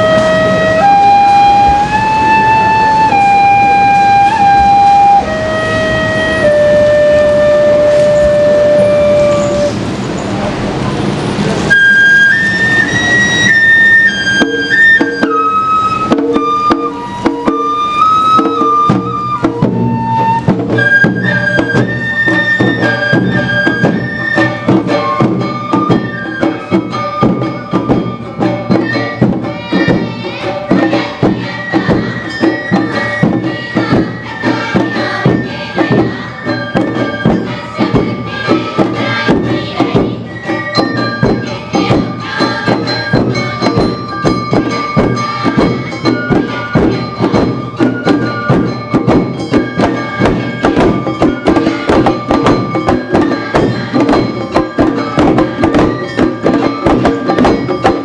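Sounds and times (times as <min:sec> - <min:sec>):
drums and percussion beat: 0:00.0 - 0:09.9, 0:11.4 - 0:58.0
high bamboo flute melody: 0:00.0 - 0:10.0, 0:11.6 - 0:58.0.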